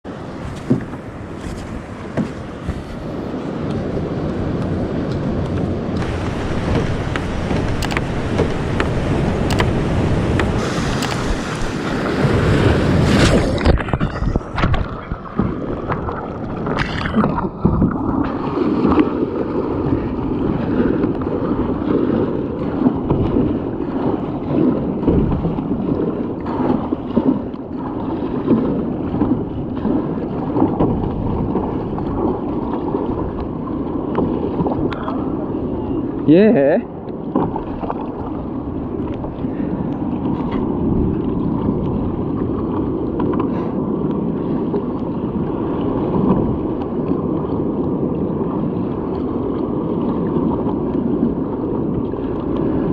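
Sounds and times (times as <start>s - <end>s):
water splashing around a kayak: 0.0s - 52.9s
wind buffeting the microphone: 0.0s - 52.9s.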